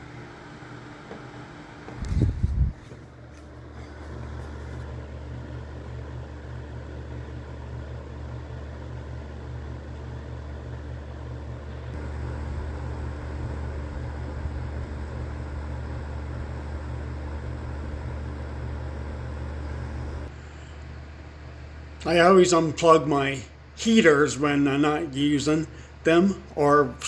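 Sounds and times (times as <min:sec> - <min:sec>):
fan heater humming: 0:00.0 - 0:27.0.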